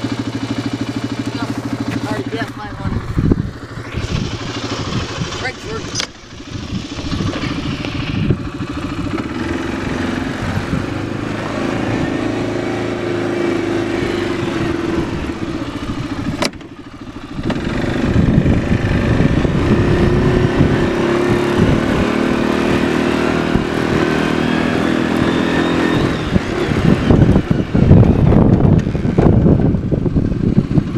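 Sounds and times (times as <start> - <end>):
atv engine running: 0.0 - 30.9.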